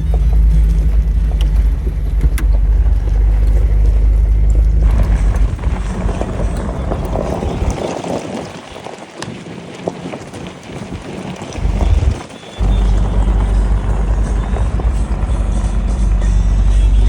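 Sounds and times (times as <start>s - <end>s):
engine and drivetrain drone: 0.0s - 17.0s
rushing road and tyre noise: 0.0s - 17.0s.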